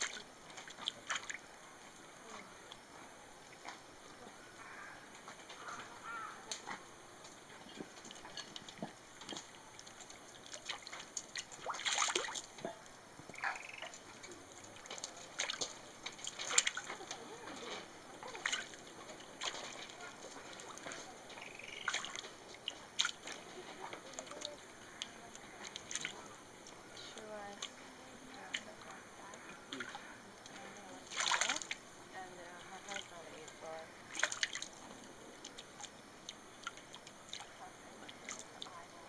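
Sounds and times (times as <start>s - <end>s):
water splashing and sloshing: 0.0s - 39.0s.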